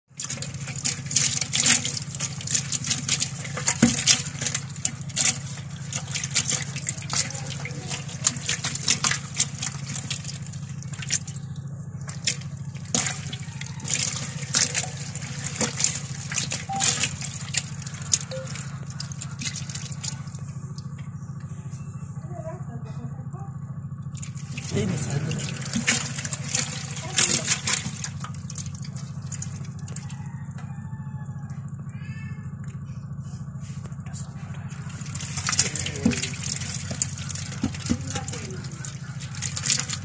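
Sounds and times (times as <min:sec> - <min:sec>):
fish flapping: 0:00.1 - 0:21.3, 0:23.9 - 0:40.0
shallow water splashing: 0:00.1 - 0:21.4, 0:23.9 - 0:31.0, 0:33.1 - 0:40.0
steady low hum: 0:00.2 - 0:40.0.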